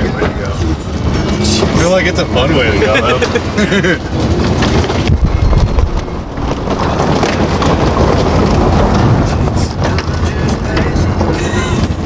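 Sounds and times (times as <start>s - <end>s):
road rumble inside car: 0.0s - 12.0s
wind noise: 0.0s - 12.0s.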